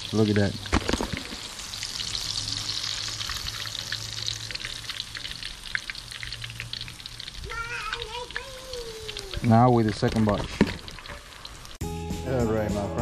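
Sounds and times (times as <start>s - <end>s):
fish deep-frying in hot oil: 0.0s - 11.8s.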